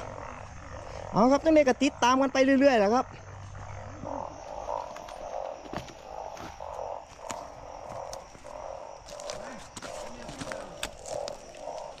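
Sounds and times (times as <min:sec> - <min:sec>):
frogs croaking in chorus: 0:00.0 - 0:12.0.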